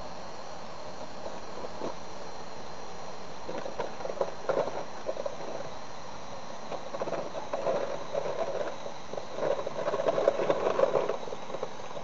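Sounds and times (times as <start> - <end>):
steady hiss: 0.0 - 12.0
rustling and crackling handling noise: 1.0 - 2.1, 3.4 - 12.0.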